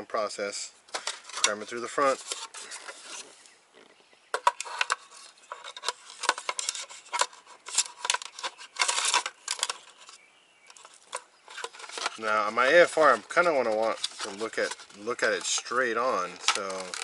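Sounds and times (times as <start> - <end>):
clicks taps and scrapes of wiring: 0.9 - 17.0.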